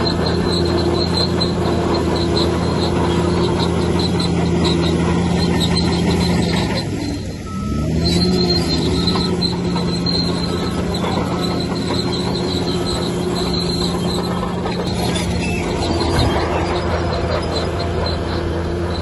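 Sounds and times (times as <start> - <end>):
bulldozer diesel engine running: 0.0 - 19.0
metallic squeal of crawler tracks: 0.0 - 19.0.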